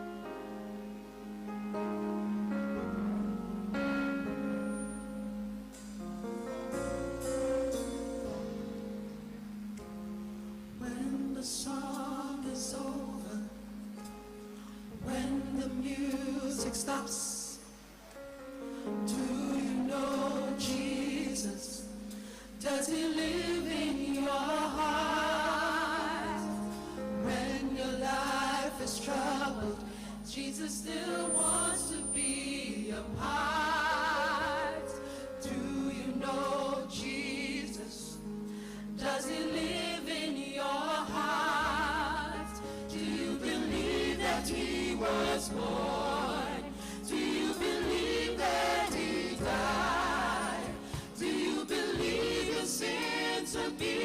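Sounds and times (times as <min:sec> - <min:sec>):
gospel singing with vibrato: 0:10.5 - 0:54.0.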